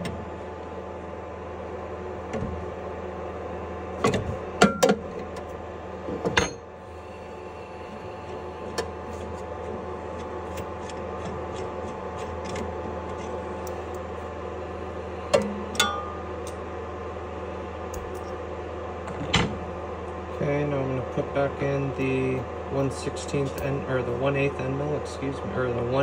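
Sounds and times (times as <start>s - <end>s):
mill humming: 0.0s - 26.0s.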